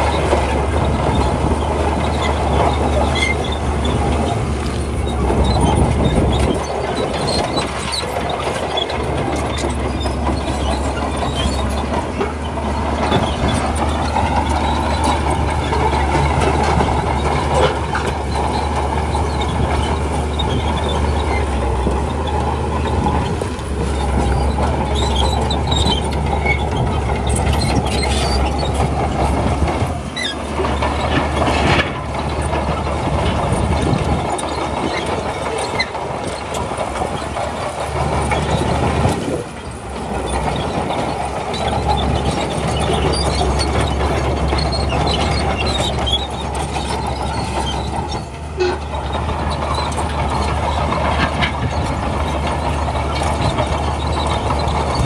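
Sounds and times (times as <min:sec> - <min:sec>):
heavy diesel engine drone: 0:00.0 - 0:55.0
metallic squeaks and clanks: 0:00.0 - 0:55.0.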